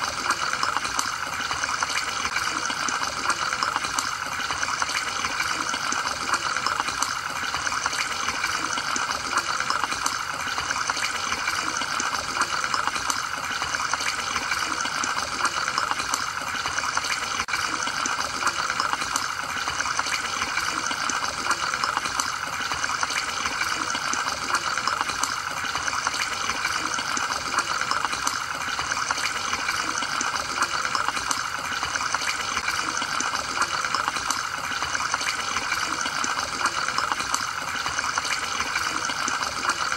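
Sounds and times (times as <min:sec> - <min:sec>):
aquarium water bubbling: 0:00.0 - 0:39.9
small bubbles popping: 0:00.0 - 0:39.9.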